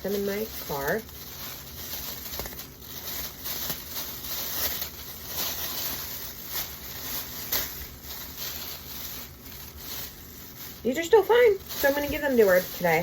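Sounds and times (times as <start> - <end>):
food bags rustling: 0.0 - 13.0.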